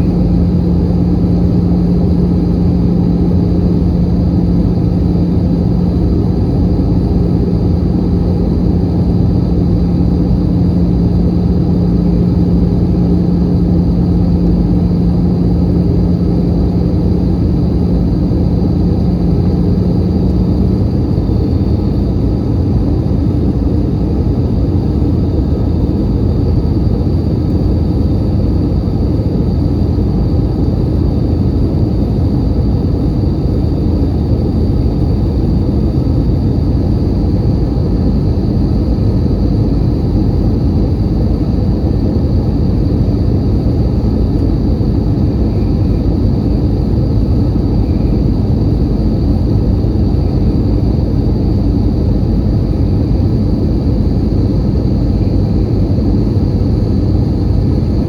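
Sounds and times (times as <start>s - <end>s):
jet engine and airflow rush: 0.0s - 58.0s
low steady hum: 0.0s - 58.0s.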